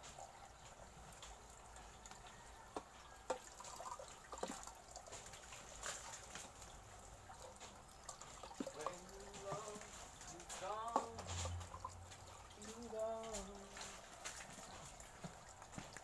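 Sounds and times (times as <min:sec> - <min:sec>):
water splashing: 0:00.0 - 0:16.0
water trickling from hose: 0:00.0 - 0:16.0.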